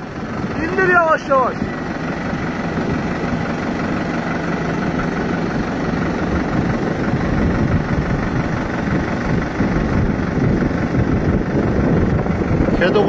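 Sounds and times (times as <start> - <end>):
tractor diesel engine: 0.0 - 13.0
low hum: 1.5 - 13.0.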